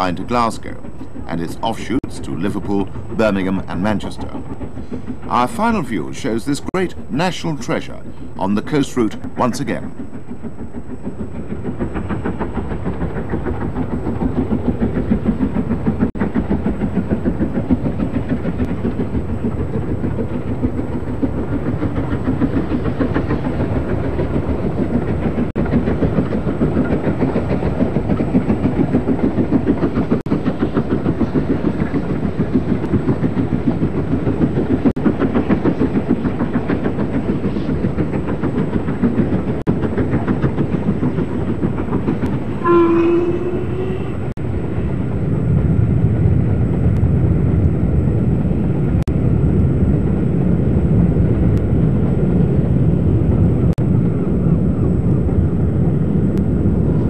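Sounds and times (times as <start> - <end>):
steam locomotive exhaust beating: 0.0 - 57.0
train rumbling on rails: 0.0 - 57.0.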